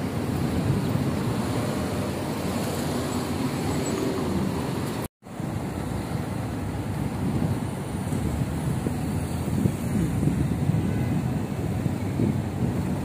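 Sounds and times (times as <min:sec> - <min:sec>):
cars and motorbikes passing: 0:00.0 - 0:13.0.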